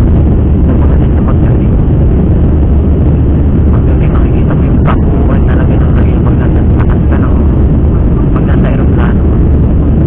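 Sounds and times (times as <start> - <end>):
jet engines and airflow rumbling: 0.0 - 10.0.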